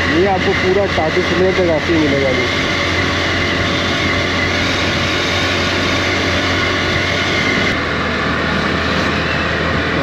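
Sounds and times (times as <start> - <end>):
motorcycle engine drone: 0.0 - 10.0.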